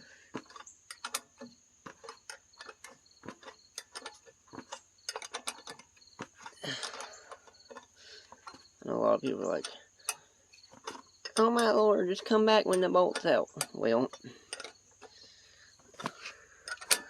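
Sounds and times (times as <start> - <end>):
wrench clicking on bolt head: 0.4 - 8.6, 9.5 - 15.2, 16.0 - 17.0.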